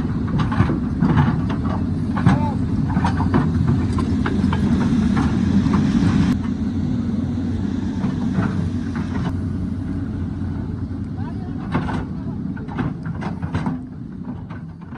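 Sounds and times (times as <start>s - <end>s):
diesel engine droning: 0.0s - 14.9s.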